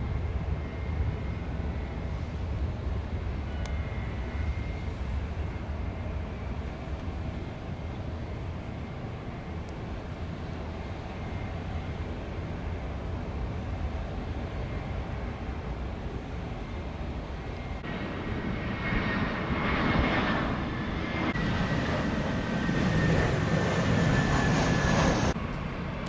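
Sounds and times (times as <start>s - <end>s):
jet airliner passing overhead: 0.0s - 26.0s.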